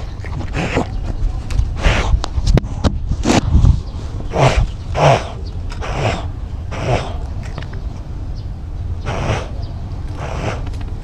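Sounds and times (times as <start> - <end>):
low camera rumble: 0.0 - 11.0.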